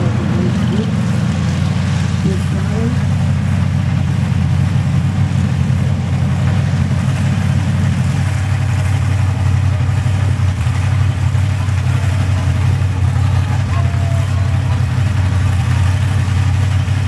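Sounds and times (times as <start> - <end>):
engine idling loudly: 0.0 - 17.0.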